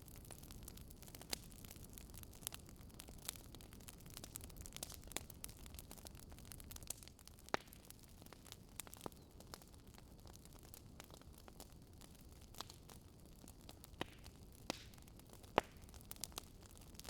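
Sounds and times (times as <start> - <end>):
wood fire crackling in fireplace: 0.0 - 17.0.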